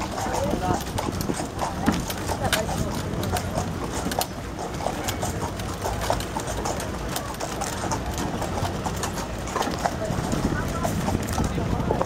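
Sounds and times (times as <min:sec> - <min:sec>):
buggy rolling rumble: 0:00.0 - 0:12.0
hooves clip-clopping on asphalt: 0:00.0 - 0:12.0.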